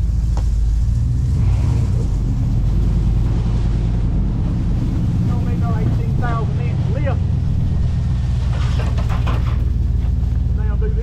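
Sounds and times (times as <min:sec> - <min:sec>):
pickup truck engine drone: 0:00.0 - 0:11.0
road noise: 0:00.0 - 0:11.0.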